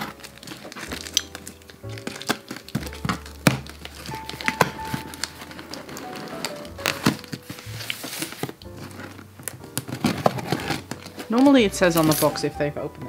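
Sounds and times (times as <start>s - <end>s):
packing tape tearing: 0.0s - 12.6s
background music: 0.0s - 13.0s.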